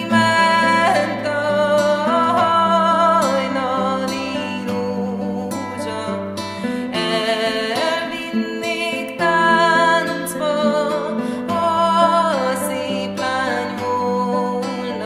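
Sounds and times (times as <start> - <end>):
folk song with acoustic guitar: 0.0 - 15.0.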